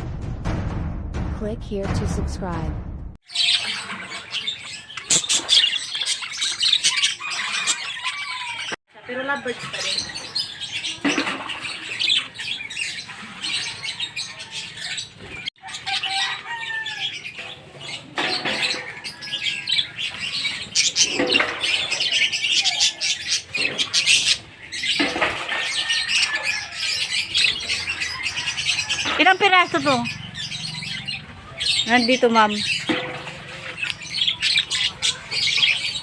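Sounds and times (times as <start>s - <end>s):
birds chirping and squawking: 3.2s - 36.0s.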